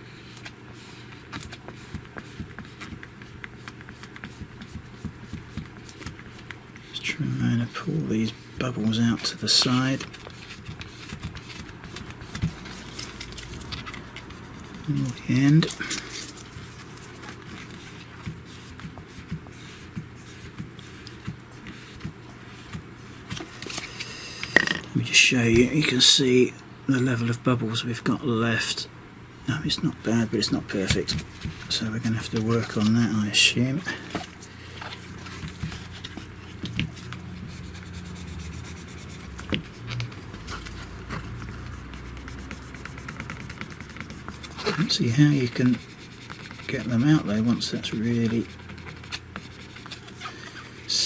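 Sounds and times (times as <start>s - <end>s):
steady low hum: 0.0s - 51.0s
hands rubbing a phone screen: 0.2s - 24.8s, 34.2s - 51.0s.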